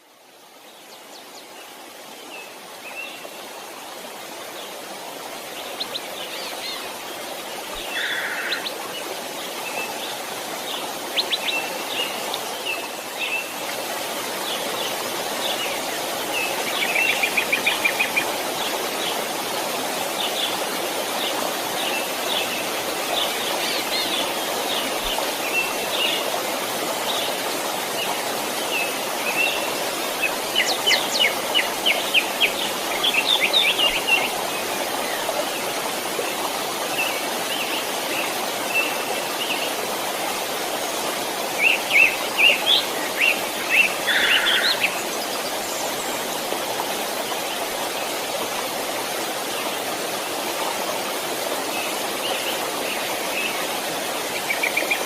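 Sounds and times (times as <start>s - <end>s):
flowing stream rushing: 0.0s - 55.0s.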